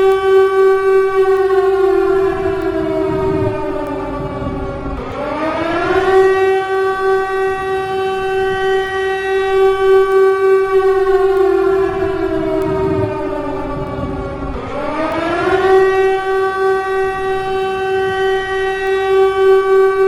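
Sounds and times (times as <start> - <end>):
warning siren wailing: 0.0 - 20.0.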